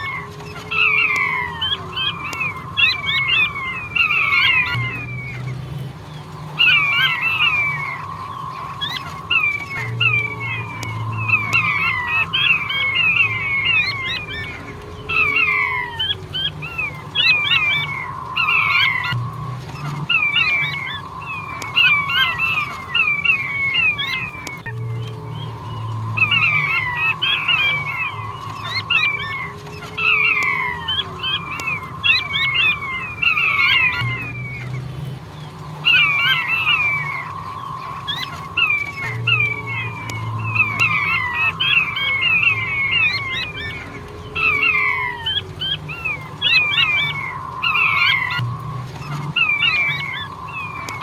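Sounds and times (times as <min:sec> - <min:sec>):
quail whistled calls: 0:00.0 - 0:51.0.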